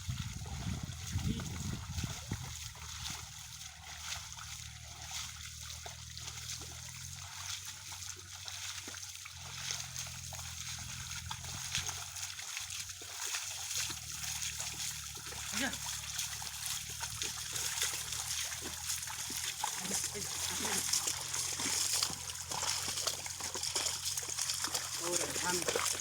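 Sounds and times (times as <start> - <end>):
muddy water splashing: 0.0 - 26.0.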